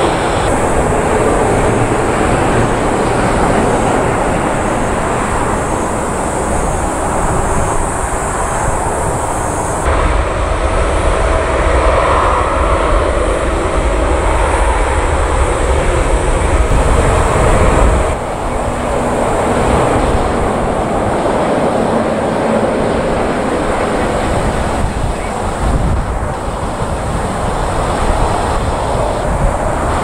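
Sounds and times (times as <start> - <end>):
jet airliner engines rumbling: 0.0 - 30.0.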